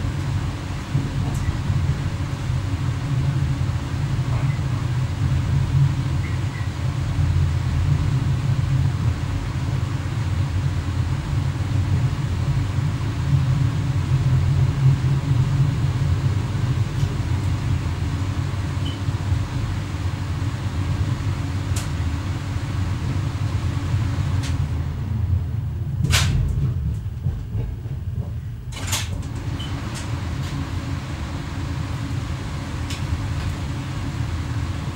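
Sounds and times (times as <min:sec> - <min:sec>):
train running rumble: 0:00.0 - 0:34.9.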